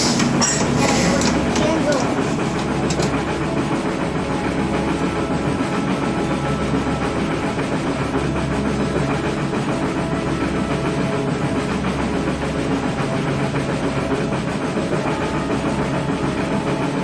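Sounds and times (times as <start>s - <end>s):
running train rumble: 0.0s - 17.0s.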